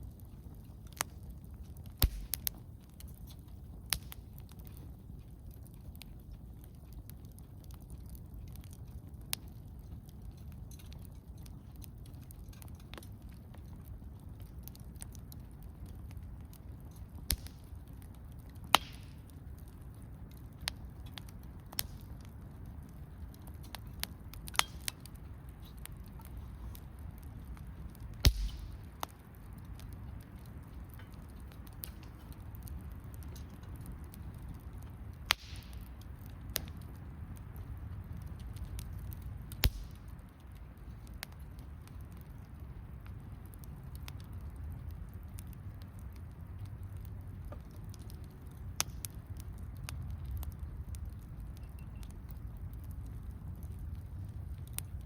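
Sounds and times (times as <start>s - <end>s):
campfire crackling and popping: 0.0s - 55.0s
low steady rumble: 0.0s - 55.0s.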